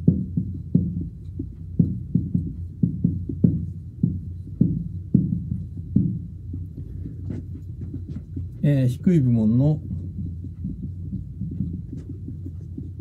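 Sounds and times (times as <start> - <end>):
steady low hum: 0.0 - 13.0
marker pen on whiteboard: 0.1 - 13.0.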